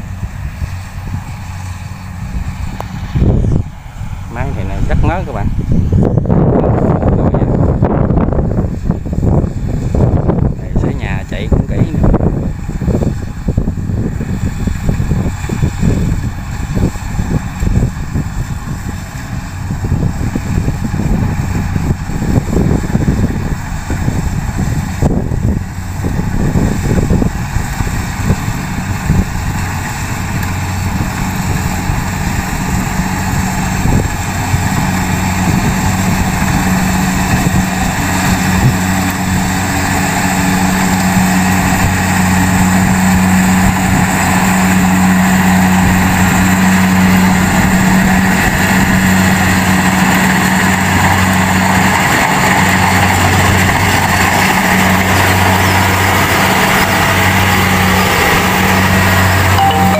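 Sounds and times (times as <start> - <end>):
combine harvester engine hum: 0.0 - 59.9.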